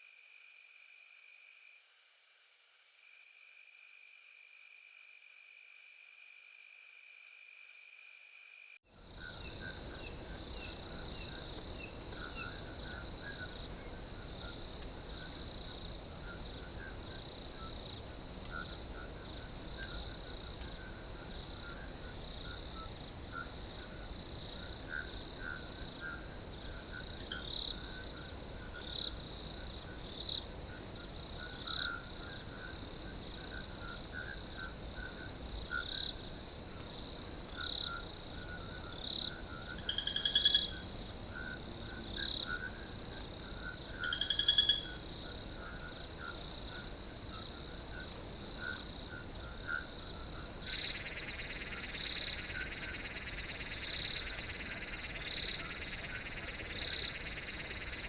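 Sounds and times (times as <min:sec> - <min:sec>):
crickets trilling: 0:08.5 - 0:58.0.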